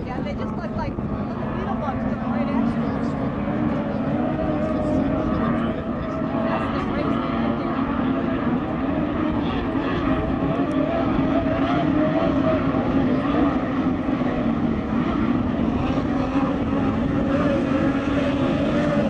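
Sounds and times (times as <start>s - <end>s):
racing boat engines droning: 0.0s - 19.0s.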